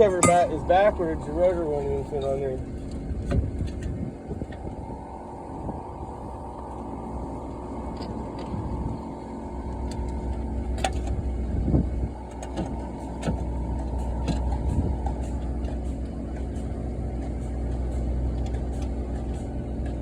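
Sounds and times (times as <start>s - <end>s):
low mechanical rumble: 0.0s - 20.0s.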